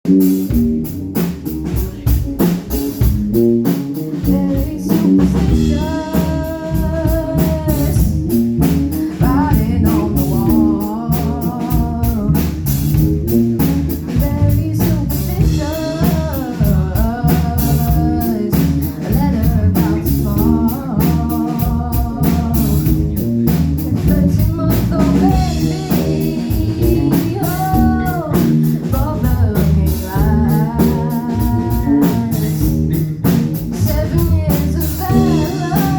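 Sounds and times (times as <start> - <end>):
bluesy rock band playing: 0.0 - 35.9
person singing: 1.6 - 13.0, 13.6 - 35.9.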